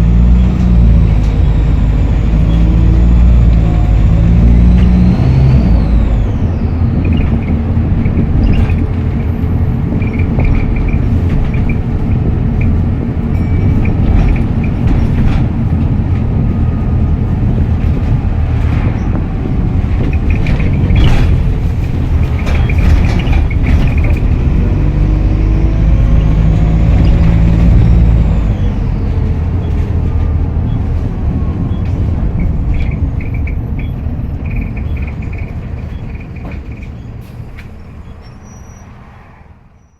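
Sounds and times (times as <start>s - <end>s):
wind noise on microphone: 0.0s - 37.7s
bus diesel engine rumbling: 0.0s - 39.9s.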